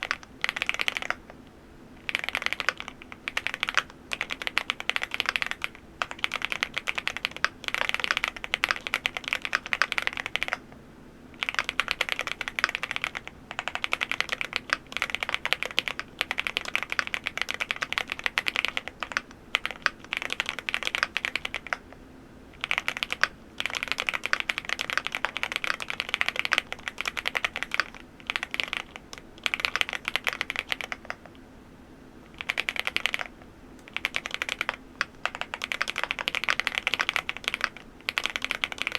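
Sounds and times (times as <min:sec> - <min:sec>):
mechanical keyboard typing: 0:00.0 - 0:01.3, 0:02.0 - 0:10.7, 0:11.4 - 0:21.9, 0:22.6 - 0:31.3, 0:32.3 - 0:38.9
faint steady hum: 0:00.0 - 0:38.9.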